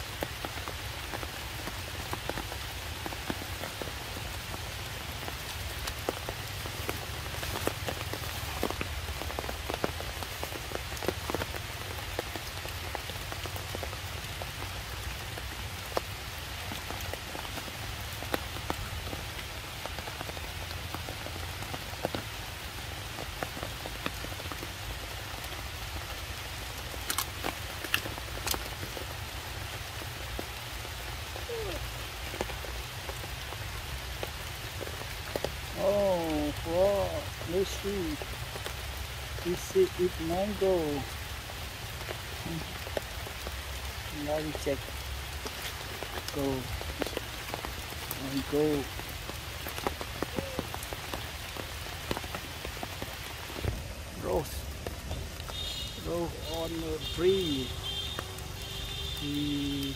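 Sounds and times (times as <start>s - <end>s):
rain on stone and leaves: 0.0s - 59.9s.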